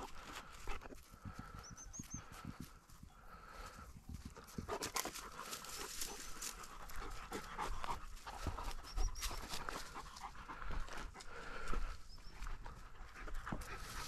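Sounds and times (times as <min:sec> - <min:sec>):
dog panting rapidly: 0:00.0 - 0:14.0
rustling in dry grass: 0:00.0 - 0:14.0
scuffing steps on dry ground: 0:00.0 - 0:14.0.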